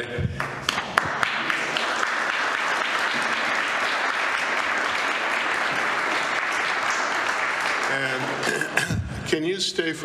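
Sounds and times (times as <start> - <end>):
congregation applauding: 0.0 - 9.6.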